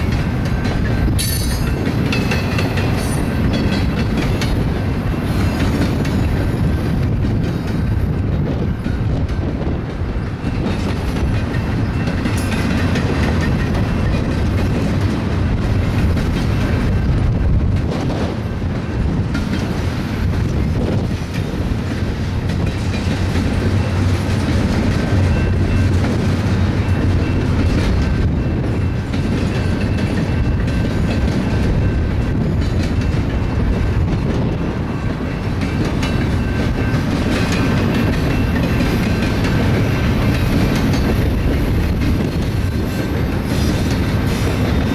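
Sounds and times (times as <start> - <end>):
freight train rumble: 0.0 - 44.9
wheels clattering over rail joints: 0.0 - 44.9.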